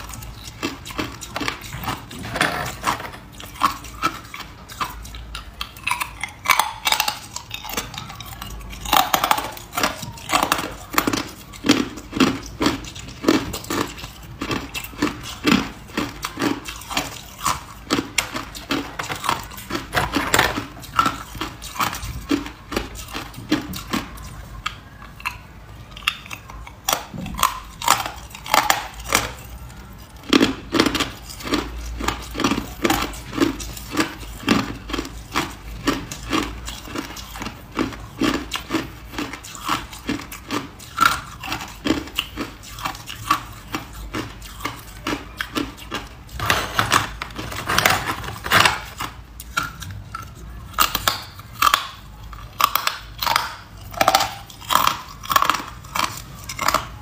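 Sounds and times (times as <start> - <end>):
ice being chewed crunching: 0.0 - 57.0.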